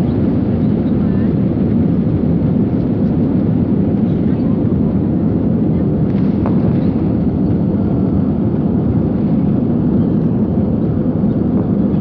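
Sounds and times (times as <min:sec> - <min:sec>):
jet engines in cabin: 0:00.0 - 0:12.0.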